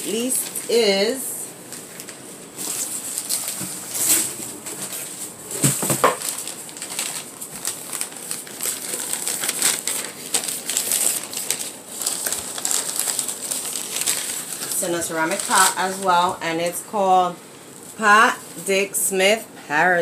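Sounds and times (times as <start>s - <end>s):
newspaper rustling and crinkling: 0.0s - 16.4s.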